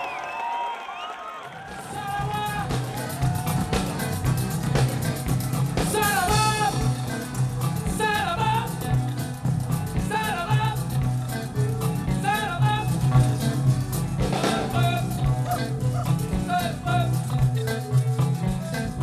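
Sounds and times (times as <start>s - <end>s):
live band music: 1.7s - 19.0s.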